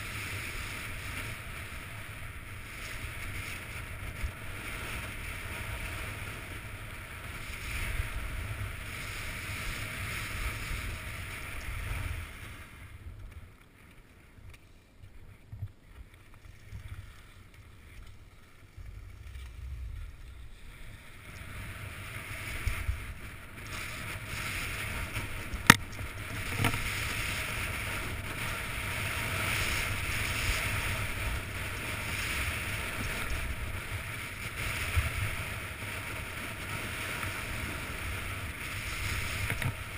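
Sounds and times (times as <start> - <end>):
skis scraping on snow: 0.0 - 39.9.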